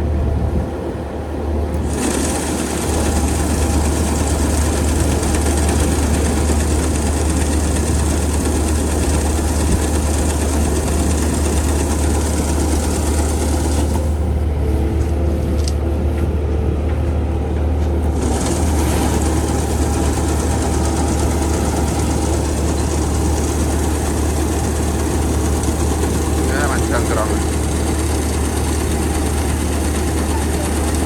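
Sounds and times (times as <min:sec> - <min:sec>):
engine running with low rumble: 0:00.0 - 0:31.0.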